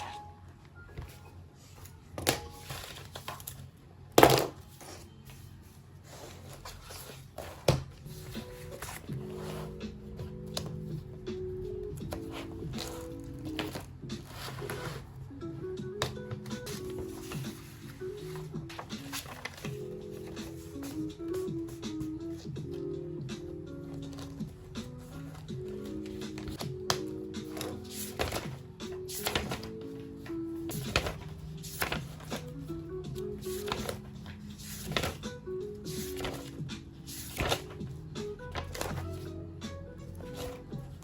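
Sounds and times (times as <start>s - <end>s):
lo-fi music with soft chords: 0.0s - 41.0s.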